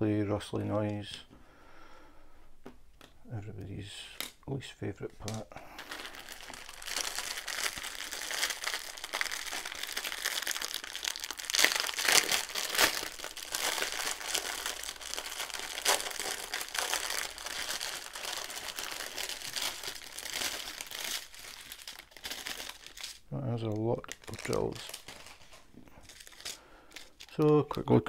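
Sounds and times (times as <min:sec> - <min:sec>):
plastic packaging crinkling: 0:05.2 - 0:28.0.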